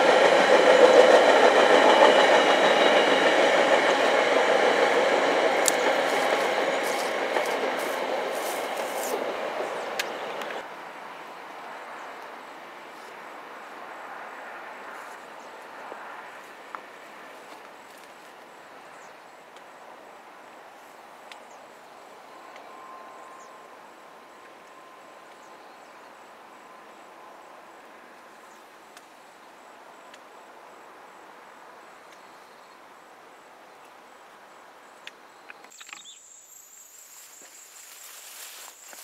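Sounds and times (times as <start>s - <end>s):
distant train rumble: 0.0s - 31.9s, 34.6s - 39.0s
insects chirping trill: 0.0s - 39.0s.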